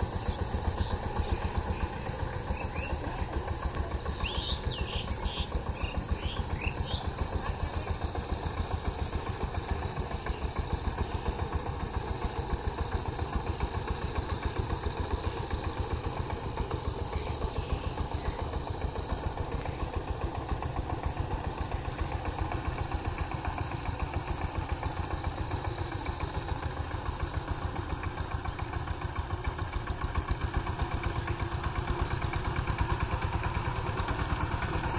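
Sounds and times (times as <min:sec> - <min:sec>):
diesel engine putter: 0:00.0 - 0:34.9.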